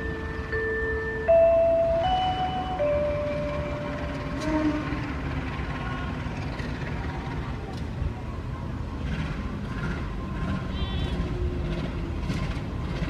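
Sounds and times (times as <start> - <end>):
locomotive low rumble: 0.0 - 13.0.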